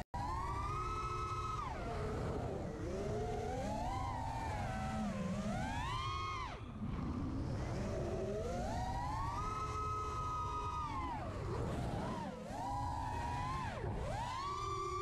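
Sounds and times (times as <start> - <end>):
quadcopter motors whining: 0.2 - 15.0.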